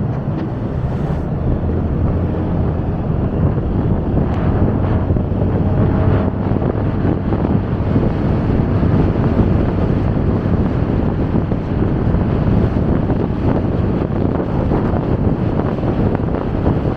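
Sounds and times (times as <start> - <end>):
motorcycle engine: 0.0 - 16.9
road noise: 0.0 - 16.9
wind rushing on microphone: 0.0 - 16.9.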